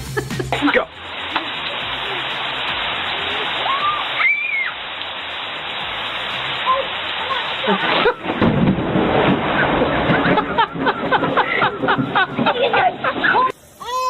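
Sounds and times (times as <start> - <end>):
heavy rain rushing: 0.0 - 14.0.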